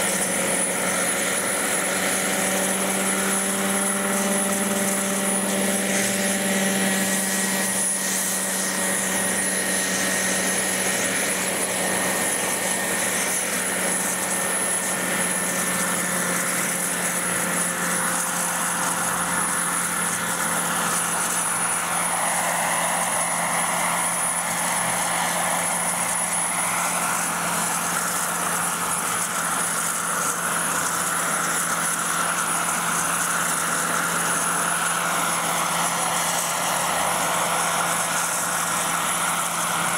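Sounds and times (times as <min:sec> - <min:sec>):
low rotor hum: 0:00.0 - 0:39.9
model helicopter high whine: 0:00.0 - 0:39.9.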